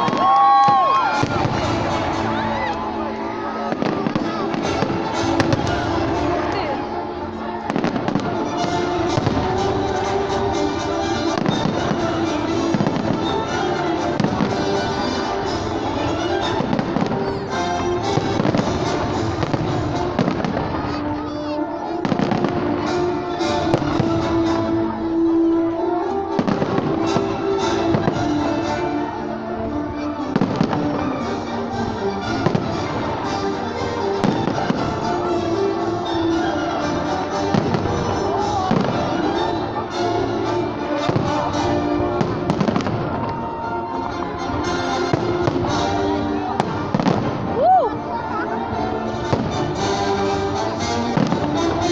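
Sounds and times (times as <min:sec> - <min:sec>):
fireworks bangs and crackles: 0:00.0 - 0:51.9
music playing: 0:00.0 - 0:51.9.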